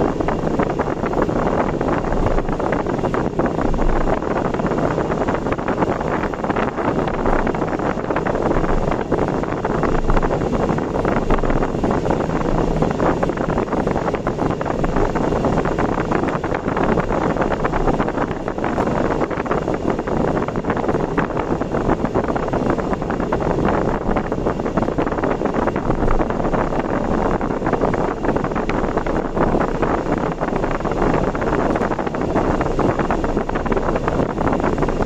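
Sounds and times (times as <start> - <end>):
wind and road noise: 0.0 - 35.0
wind buffeting microphone: 0.0 - 35.0.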